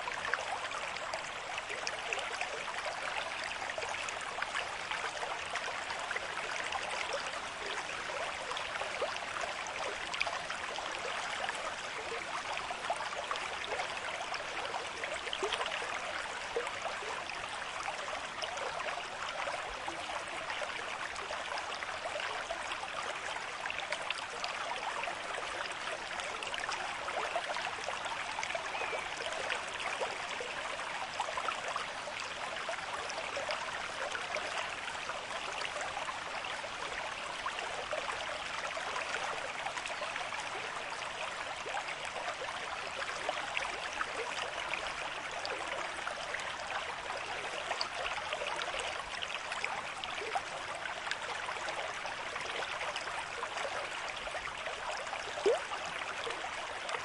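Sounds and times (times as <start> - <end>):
stream splashing over rocks: 0.0 - 57.0.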